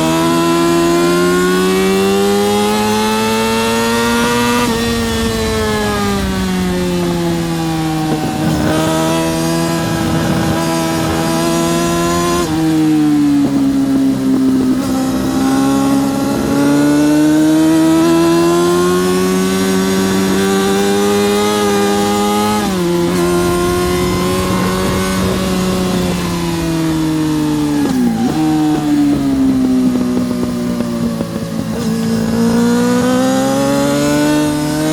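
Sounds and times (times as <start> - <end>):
motorcycle engine at high revs: 0.0 - 34.9.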